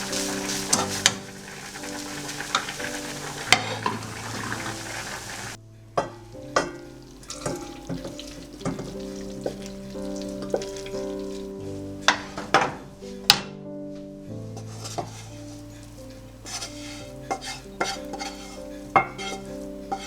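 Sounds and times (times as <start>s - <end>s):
food sizzling in a frying pan: 0.0s - 5.6s, 6.8s - 12.6s, 14.6s - 20.0s
utensil scraping a pan: 0.0s - 5.6s, 6.7s - 12.7s, 14.6s - 20.0s
soft background music: 0.0s - 20.0s.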